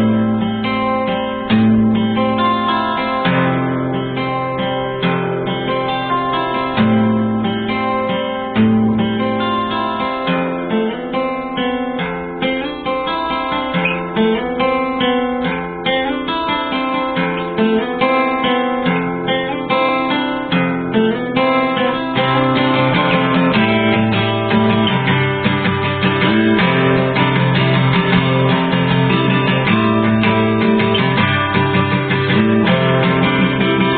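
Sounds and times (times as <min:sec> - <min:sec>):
acoustic guitar music: 0:00.0 - 0:33.9.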